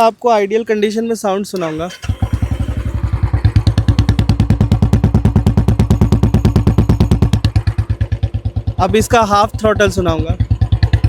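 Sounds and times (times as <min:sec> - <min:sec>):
motorcycle engine idling: 0:01.6 - 0:11.0.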